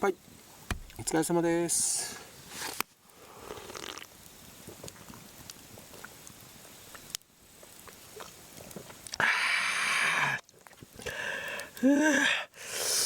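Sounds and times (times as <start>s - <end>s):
campfire crackling and popping: 0.4s - 13.0s.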